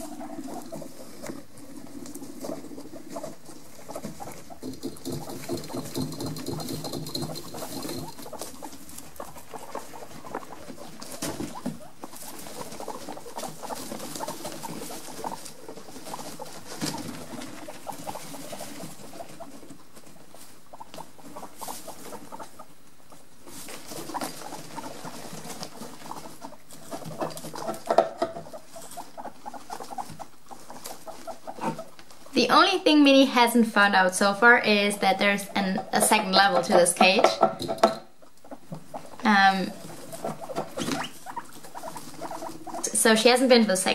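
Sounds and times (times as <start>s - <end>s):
guinea pigs rustling in bedding: 0.0s - 43.9s.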